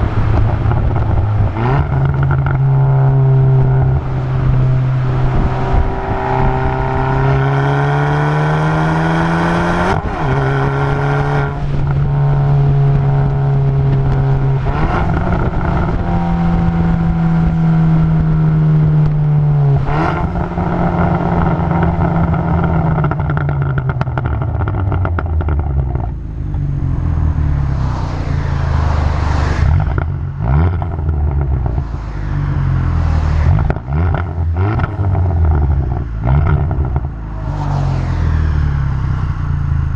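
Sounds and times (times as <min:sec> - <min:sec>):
car engine exhaust revving: 0:00.0 - 0:39.9.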